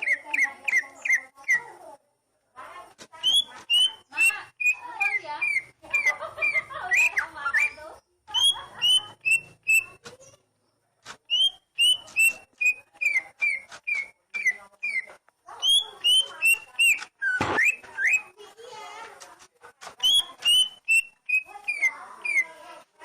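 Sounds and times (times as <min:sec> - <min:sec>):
songbird whistling and squeaking: 0:00.0 - 0:01.8, 0:03.2 - 0:10.4, 0:11.2 - 0:18.5, 0:20.0 - 0:22.6.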